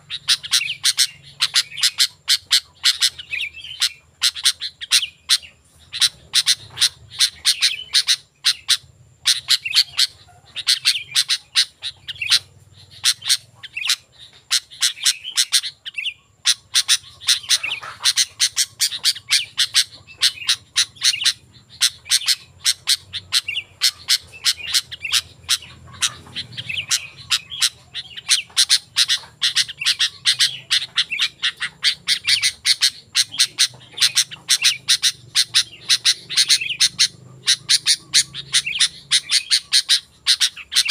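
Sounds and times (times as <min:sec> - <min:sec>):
bird chirping and squawking: 0:00.0 - 0:40.9.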